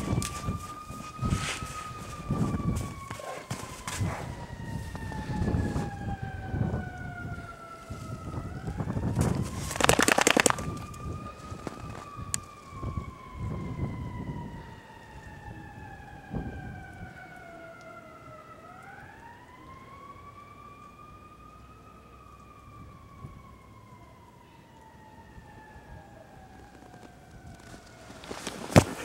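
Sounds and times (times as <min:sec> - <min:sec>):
siren wailing: 0:00.0 - 0:29.0.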